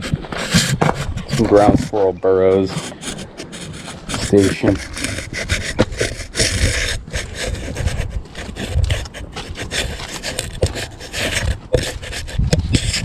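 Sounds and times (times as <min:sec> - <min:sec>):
scratchy scraping strokes: 0:00.0 - 0:13.0.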